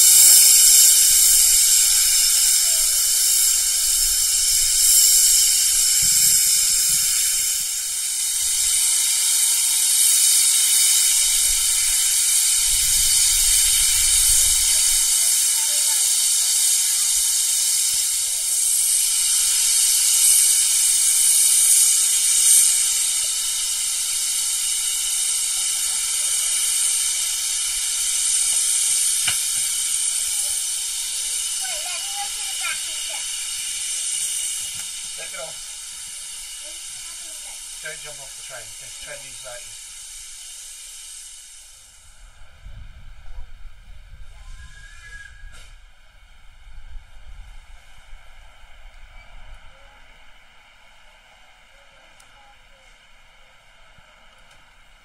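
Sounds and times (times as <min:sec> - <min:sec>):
steam hissing from locomotive: 0:00.0 - 0:55.0.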